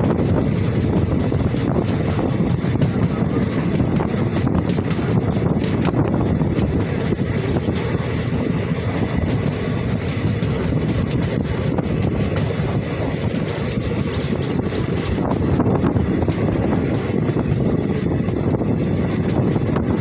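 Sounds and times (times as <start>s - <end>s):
train rumbling at speed: 0.0s - 20.0s
wind buffeting microphone: 0.0s - 20.0s.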